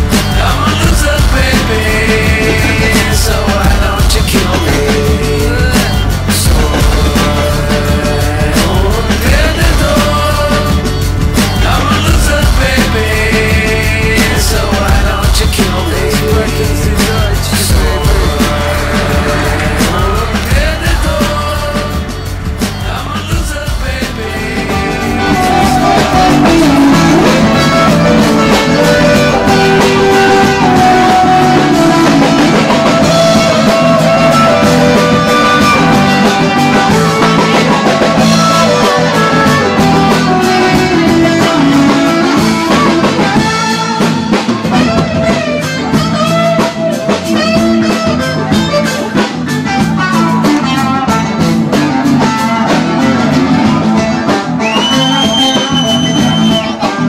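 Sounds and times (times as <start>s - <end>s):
drum kit steady beat: 0.0s - 57.0s
guitar: 0.0s - 57.0s.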